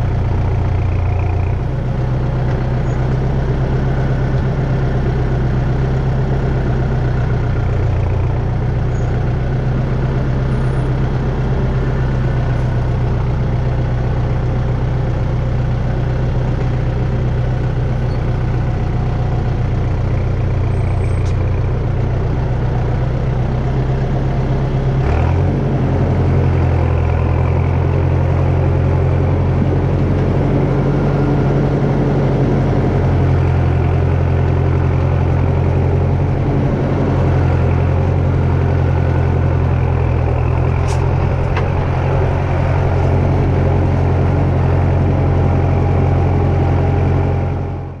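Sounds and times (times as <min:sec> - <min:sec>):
heavy engine running: 0:00.0 - 0:48.0.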